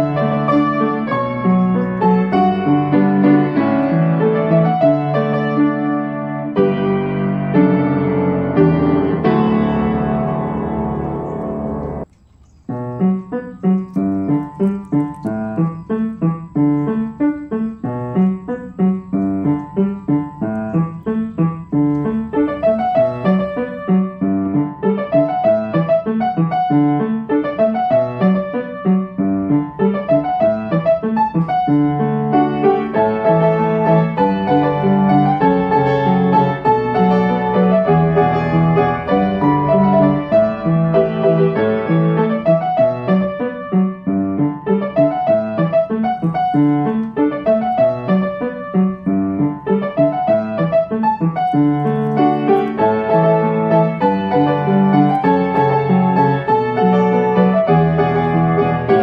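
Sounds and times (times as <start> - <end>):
piano music: 0.0 - 12.1, 12.7 - 59.0.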